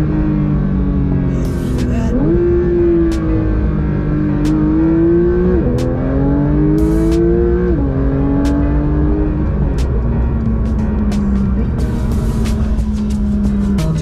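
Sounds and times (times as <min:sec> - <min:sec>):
sports car engine accelerating: 0:00.0 - 0:14.0.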